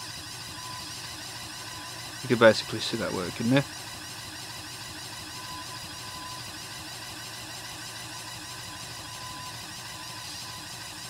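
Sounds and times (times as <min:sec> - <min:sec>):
small electric motors whirring: 0:00.0 - 0:11.0.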